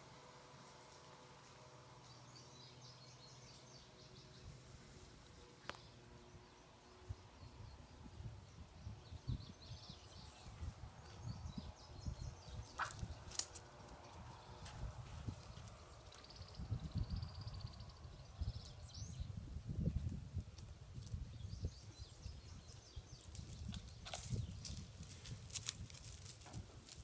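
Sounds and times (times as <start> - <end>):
birds chirping: 0.7 - 20.2, 21.0 - 25.3.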